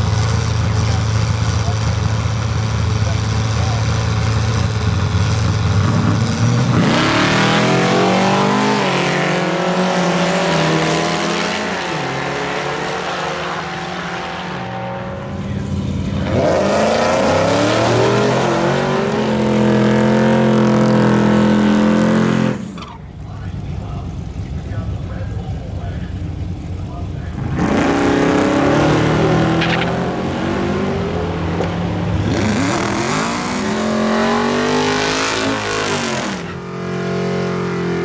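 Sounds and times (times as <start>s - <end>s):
drag racing cars launching: 0.0s - 38.0s.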